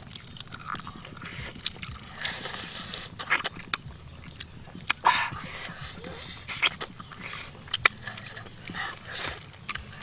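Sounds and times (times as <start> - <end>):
person chewing and lip smacking: 0.0 - 10.0.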